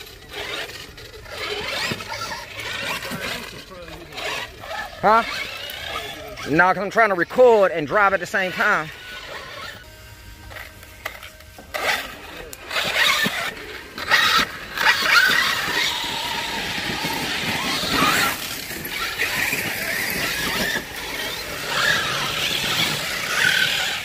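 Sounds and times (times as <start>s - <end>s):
rough uneven noise: 0.0s - 24.0s
toy truck electric motor whine: 0.0s - 24.0s.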